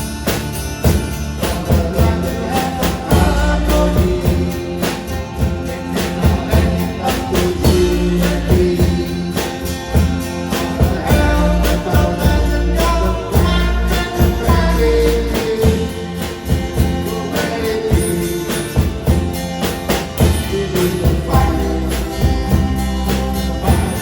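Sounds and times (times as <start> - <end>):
song with drums and bass: 0.0 - 24.0.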